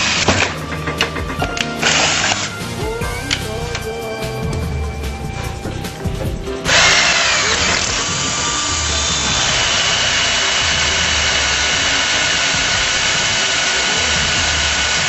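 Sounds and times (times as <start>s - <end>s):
power grinder whining on metal: 0.0s - 15.0s.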